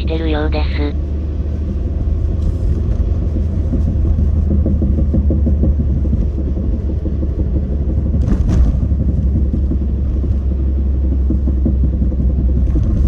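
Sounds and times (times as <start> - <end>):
car road and drivetrain rumble: 0.0 - 13.0.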